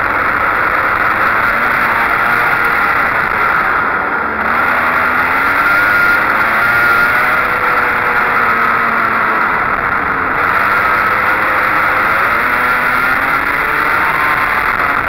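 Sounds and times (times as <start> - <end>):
go-kart engine running: 0.0 - 15.0
steady rushing noise: 0.0 - 15.0.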